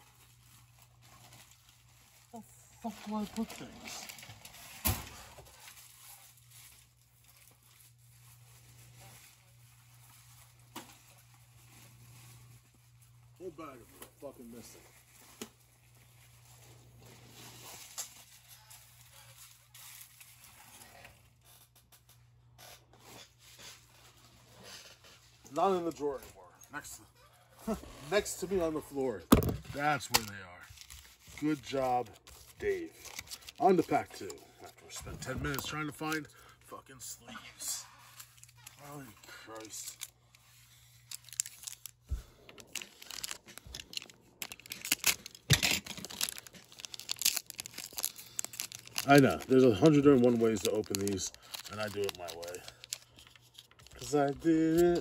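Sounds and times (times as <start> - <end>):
foil pack crackling and ripping: 0.0 - 21.8, 27.6 - 36.6, 37.6 - 55.0
low electrical hum: 0.0 - 55.0.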